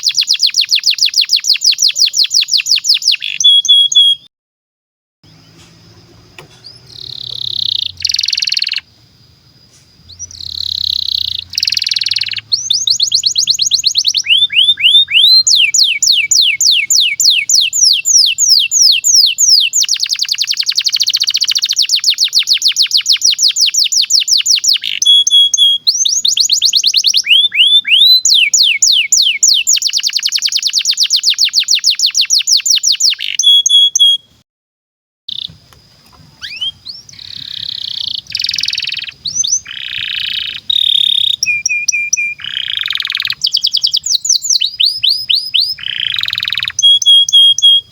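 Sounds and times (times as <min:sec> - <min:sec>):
canary singing trills: 0:00.0 - 0:04.3, 0:05.2 - 0:09.0, 0:09.6 - 0:34.4, 0:35.3 - 0:35.6, 0:36.2 - 0:47.9.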